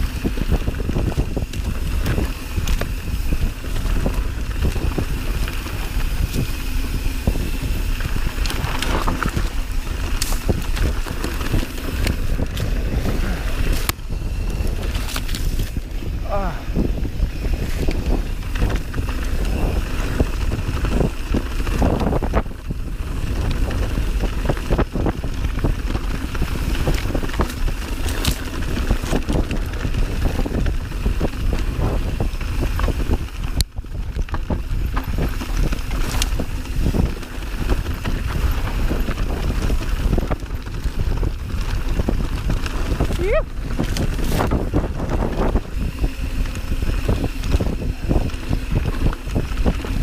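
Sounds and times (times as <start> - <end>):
bike rattling and knocking: 0.0 - 50.0
tyres on dirt: 0.0 - 50.0
wind buffeting microphone: 0.0 - 50.0.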